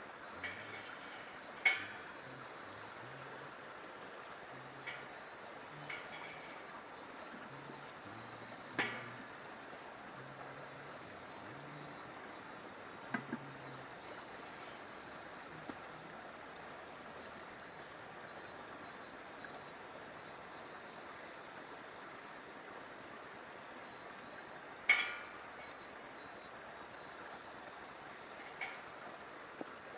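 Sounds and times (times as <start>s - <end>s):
insects chirping: 0.0s - 29.9s.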